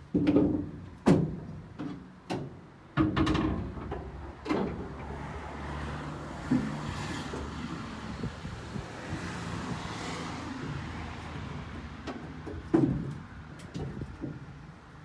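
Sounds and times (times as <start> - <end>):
knocks and clunks on metal: 0.0 - 5.2, 6.4 - 8.4, 9.0 - 14.6
low hum of engine or traffic: 0.0 - 15.0.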